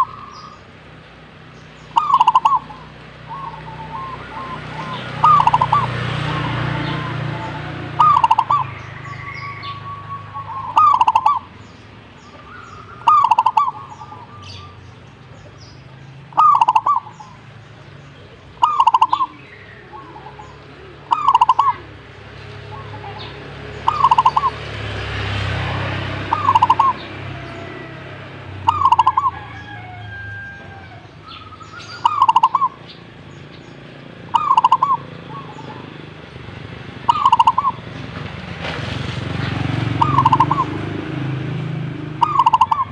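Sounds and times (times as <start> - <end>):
dove cooing: 0.0 - 0.7, 1.8 - 15.6, 16.3 - 33.0, 34.0 - 38.3, 39.5 - 42.9
small birds chirping: 0.0 - 42.9.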